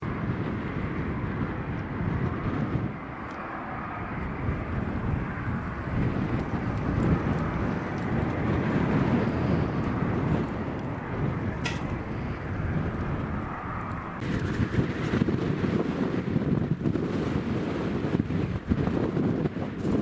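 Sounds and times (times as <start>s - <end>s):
airliner engine roar: 0.0s - 20.0s
wind buffeting microphone: 0.0s - 20.0s.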